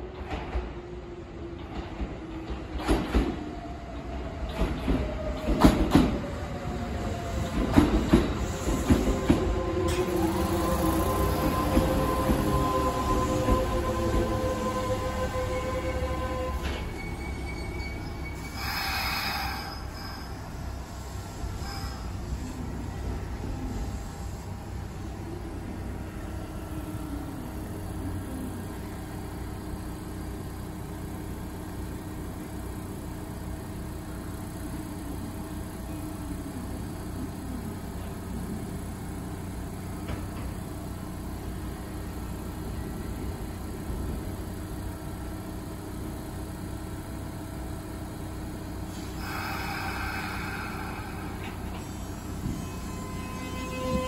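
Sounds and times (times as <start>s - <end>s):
electric train low hum: 0.0s - 54.0s.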